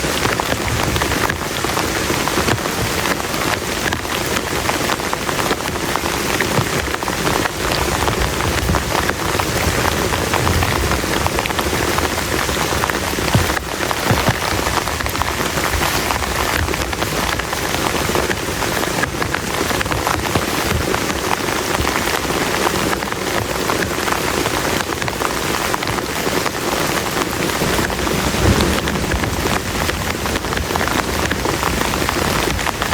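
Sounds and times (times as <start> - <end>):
heavy rain falling: 0.0 - 32.9.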